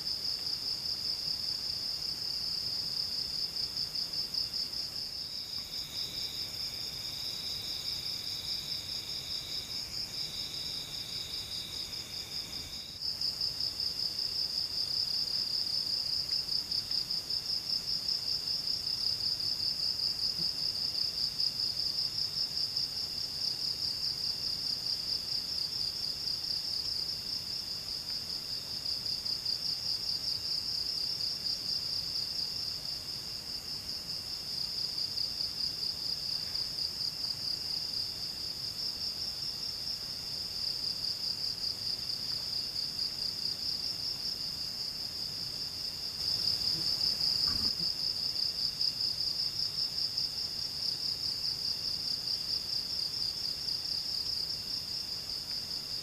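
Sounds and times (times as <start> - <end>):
faint insect tones: 0.0 - 56.0.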